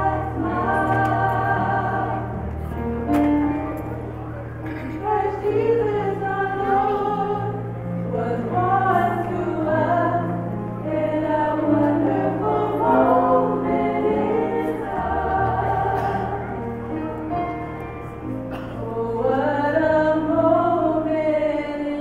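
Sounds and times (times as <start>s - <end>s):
choir singing in harmony: 0.0s - 3.7s, 4.4s - 22.0s.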